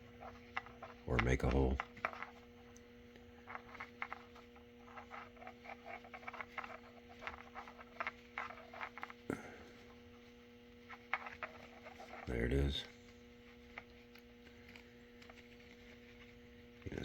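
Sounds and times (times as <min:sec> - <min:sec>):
low electrical hum: 0:00.0 - 0:17.0
wire scratching and clicking: 0:00.0 - 0:17.0.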